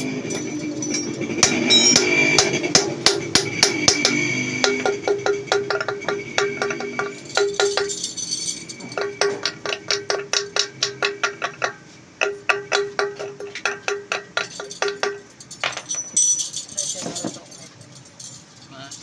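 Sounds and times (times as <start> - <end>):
hammer tapping on metal: 0.0 - 15.8.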